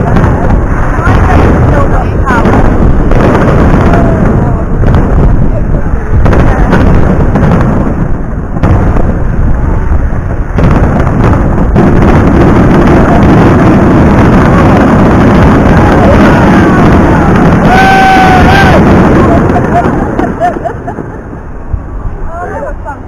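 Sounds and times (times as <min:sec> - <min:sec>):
firework whistling glides: 0:00.0 - 0:22.8
fireworks bangs and booms: 0:00.0 - 0:23.0.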